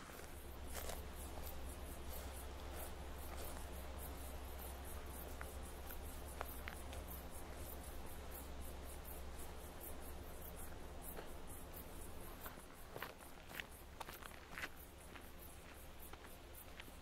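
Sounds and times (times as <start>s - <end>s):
low steady rumble: 0.0s - 16.9s
insect chirping: 0.0s - 17.0s.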